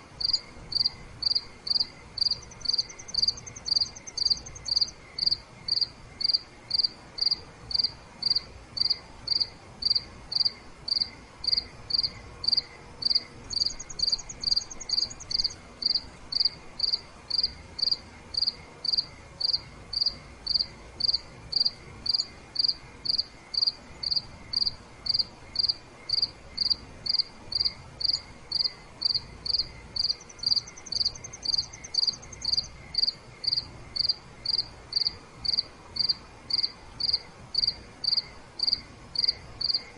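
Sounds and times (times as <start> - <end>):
crickets chirping: 0.0 - 39.9
higher fast insect trill: 0.2 - 39.9.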